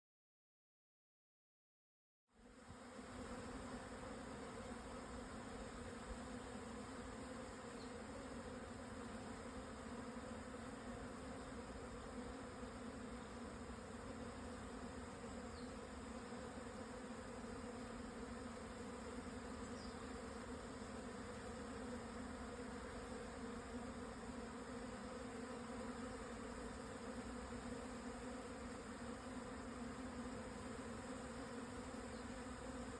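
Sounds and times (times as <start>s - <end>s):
bee swarm buzzing: 2.4s - 32.9s.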